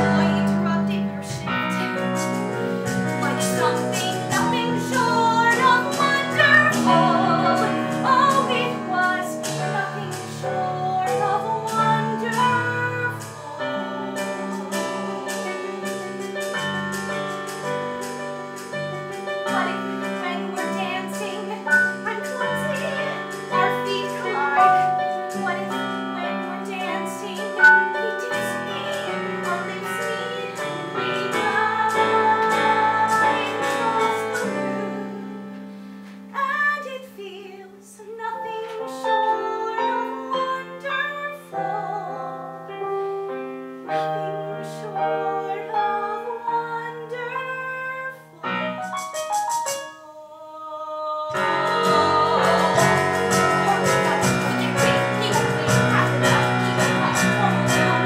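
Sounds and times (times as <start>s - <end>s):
woman singing: 0.0s - 17.4s, 19.2s - 35.5s, 36.3s - 42.5s, 43.9s - 48.9s, 49.8s - 58.0s
piano accompaniment: 0.0s - 58.0s.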